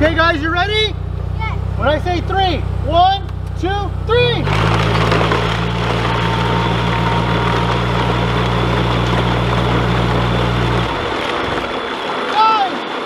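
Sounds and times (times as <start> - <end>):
forklift engine revving: 0.0 - 12.0.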